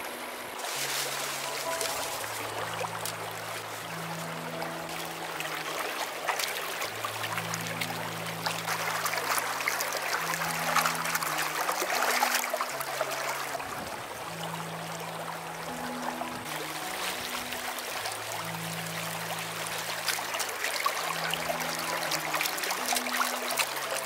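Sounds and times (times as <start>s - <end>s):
soft background music: 0.0s - 24.0s
stream running over stones: 0.0s - 24.0s.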